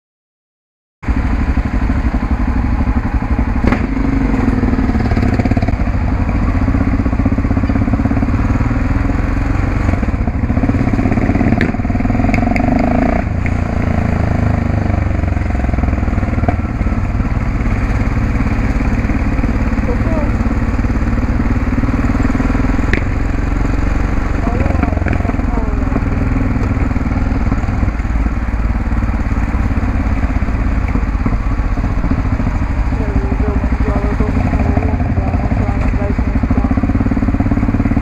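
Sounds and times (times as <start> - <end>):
motorcycle engine running: 1.0 - 38.0.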